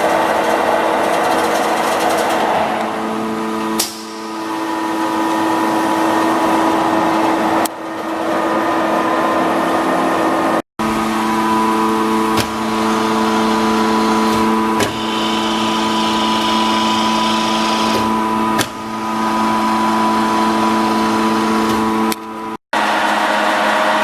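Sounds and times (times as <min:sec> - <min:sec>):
lathe humming with a whine: 0:00.0 - 0:24.0.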